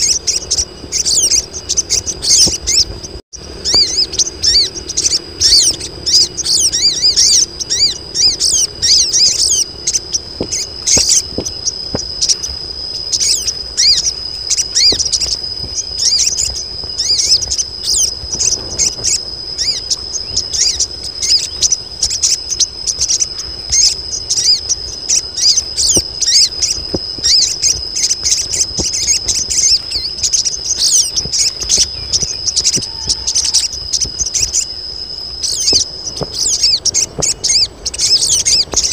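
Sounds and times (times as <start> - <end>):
birds chattering in high chirps: 0.0 - 38.9.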